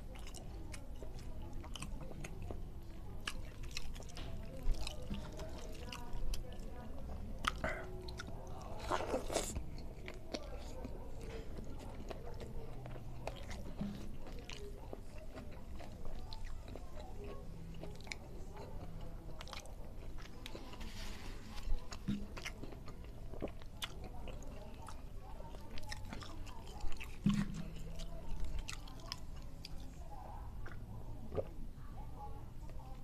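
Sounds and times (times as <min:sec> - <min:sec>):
wet chewing and mouth clicks: 0:00.0 - 0:31.6.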